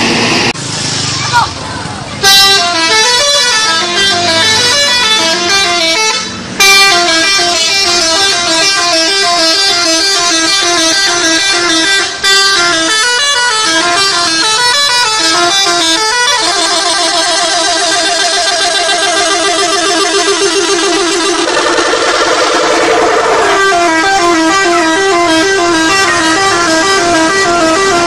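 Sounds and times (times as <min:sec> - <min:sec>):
multi-tone air horns playing tune: 0:02.2 - 0:28.0.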